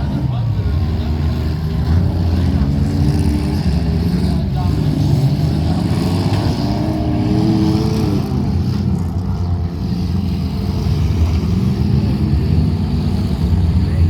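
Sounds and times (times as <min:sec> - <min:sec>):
car engine revving: 0:00.0 - 0:14.0
car engines running loudly: 0:00.0 - 0:14.0.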